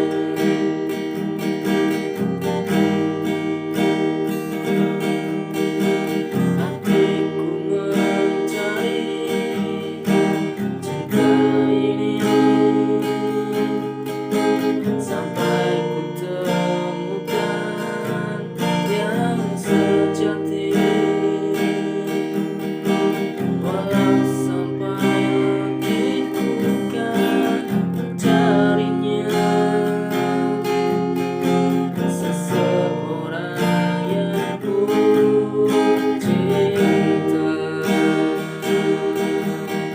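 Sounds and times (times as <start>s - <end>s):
acoustic guitar strumming chords: 0.0s - 39.9s
person singing: 0.0s - 39.9s.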